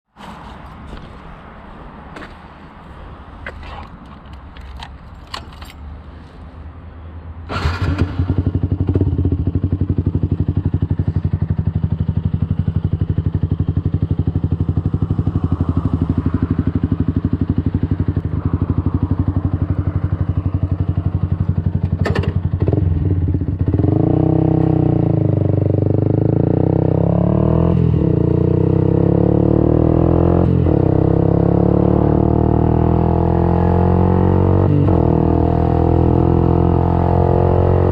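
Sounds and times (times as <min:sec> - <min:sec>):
motorcycle engine idling and revving: 0:07.4 - 0:37.9.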